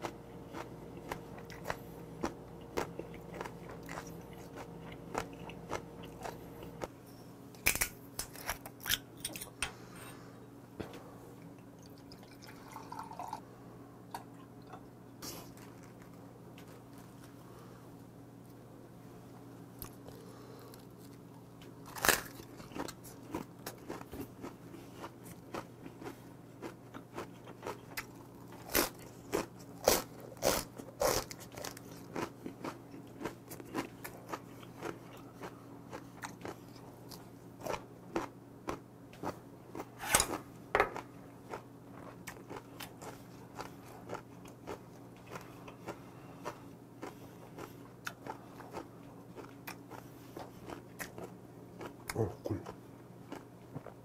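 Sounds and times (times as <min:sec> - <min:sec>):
crunching and chewing cabbage: 0:00.0 - 0:09.6, 0:14.3 - 0:17.7, 0:19.7 - 0:54.0
low steady hum: 0:00.0 - 0:54.0.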